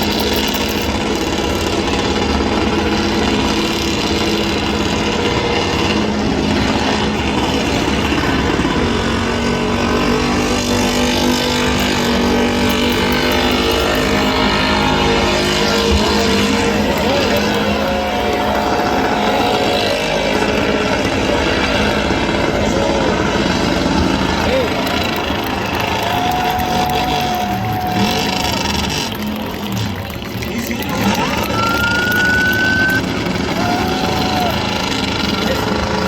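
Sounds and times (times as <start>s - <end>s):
engine revving high: 0.0s - 36.0s.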